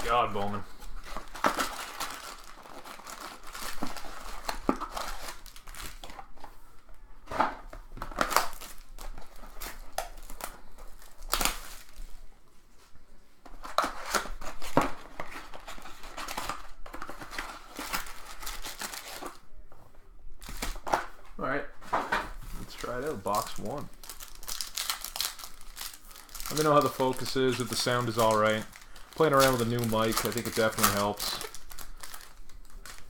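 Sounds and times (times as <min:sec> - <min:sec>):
plastic wrap and cardboard tearing: 0:00.0 - 0:06.4, 0:07.3 - 0:12.2, 0:13.6 - 0:19.4, 0:22.4 - 0:33.0.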